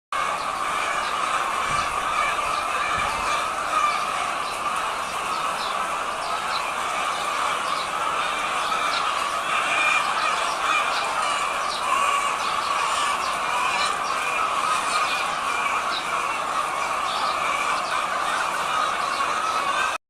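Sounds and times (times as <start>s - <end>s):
flock of chickens clucking: 0.2s - 20.0s.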